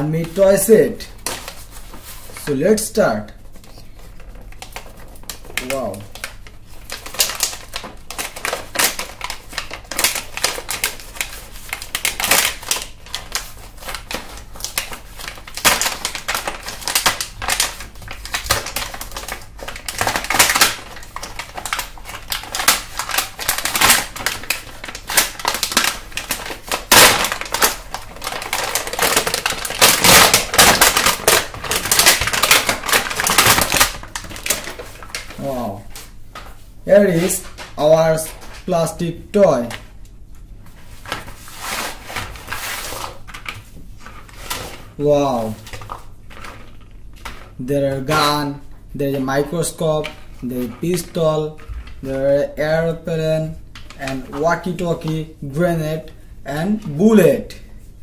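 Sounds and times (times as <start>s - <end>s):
plastic packaging crackling: 0.0s - 58.0s.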